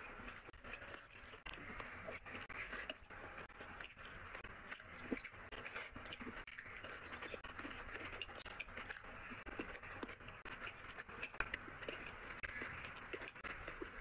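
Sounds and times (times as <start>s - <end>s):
chewing with wet clicks: 0.0s - 14.0s
fingers mixing rice on plate: 0.0s - 14.0s.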